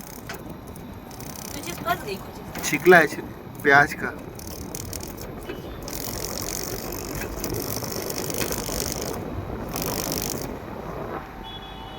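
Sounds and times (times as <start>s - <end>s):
onion skin rattling buzz: 0.0s - 10.7s
air conditioner running: 0.0s - 11.1s.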